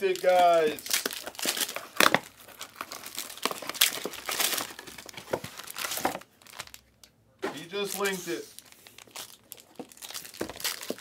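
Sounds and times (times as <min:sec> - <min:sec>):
card wrappers crinkling and tearing: 0:00.0 - 0:06.9, 0:07.6 - 0:11.0.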